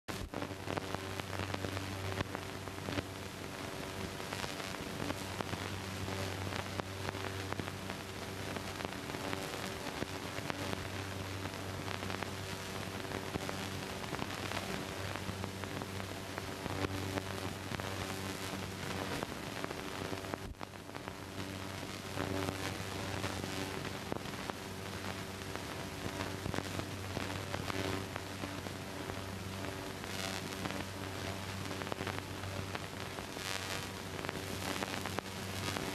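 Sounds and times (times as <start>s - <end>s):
film soundtrack hiss and crackle: 0.1s - 35.9s.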